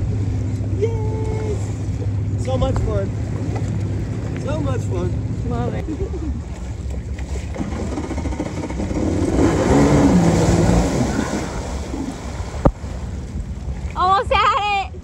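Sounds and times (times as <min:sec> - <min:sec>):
jet ski engine revving: 0:00.0 - 0:14.0.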